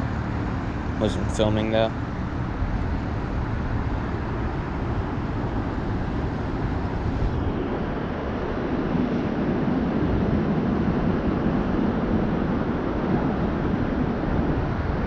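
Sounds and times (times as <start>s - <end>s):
low-rumbling outdoor background noise: 0.0s - 15.0s.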